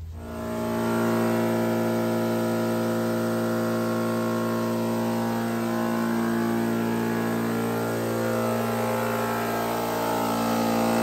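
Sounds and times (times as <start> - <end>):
machine motor humming: 0.0 - 11.0.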